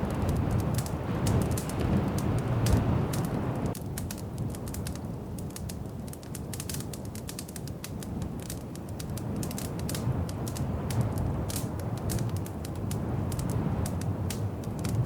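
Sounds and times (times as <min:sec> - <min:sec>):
low rumble of flame: 0:00.0 - 0:15.0
wood fire crackling: 0:00.0 - 0:15.0.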